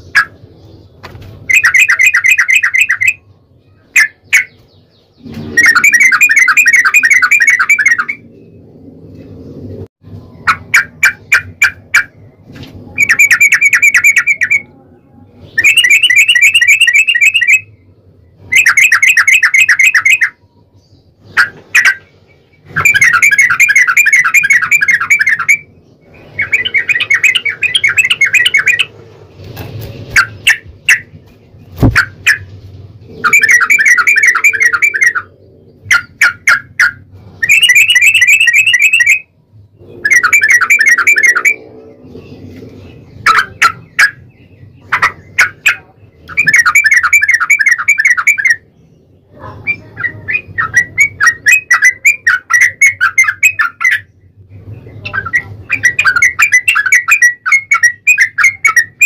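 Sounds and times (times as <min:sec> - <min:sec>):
bird singing chattering song: 0:00.0 - 0:28.9, 0:29.7 - 0:59.0.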